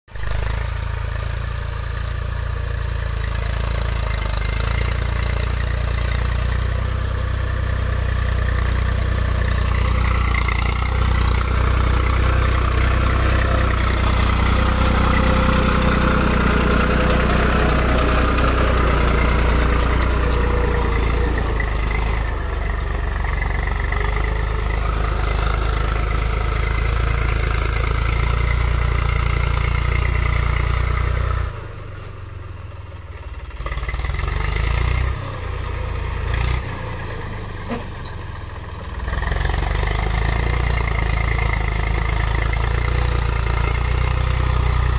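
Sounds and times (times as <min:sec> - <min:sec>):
tractor diesel engine running: 0:00.1 - 0:44.9.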